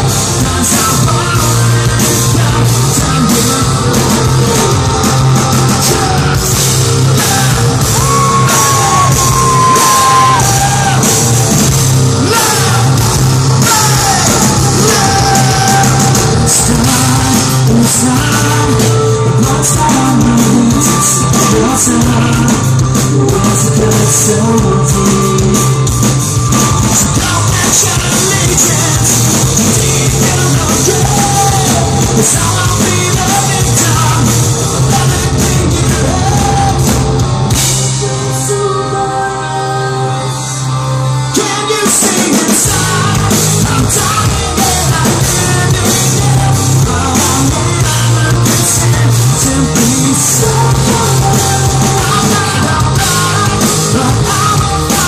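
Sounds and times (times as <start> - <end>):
live rock band: 0.0 - 55.0
sung lead vocal: 0.0 - 55.0.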